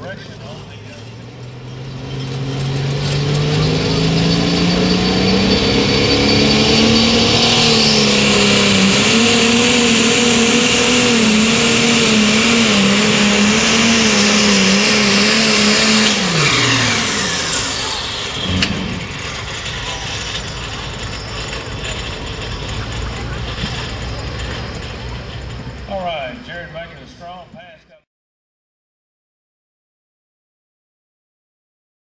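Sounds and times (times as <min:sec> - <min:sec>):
diesel engine at full throttle: 0:00.0 - 0:27.8
high turbo whine: 0:00.0 - 0:28.0.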